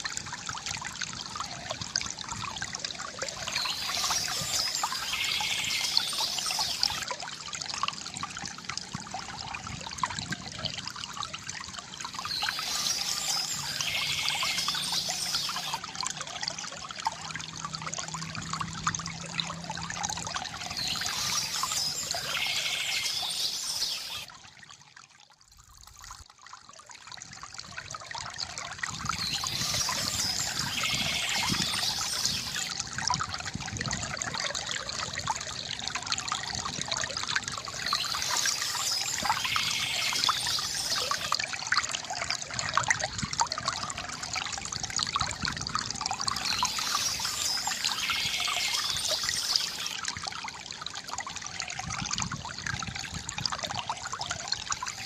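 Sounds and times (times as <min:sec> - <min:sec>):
river water trickling and gurgling: 0:00.0 - 0:55.0.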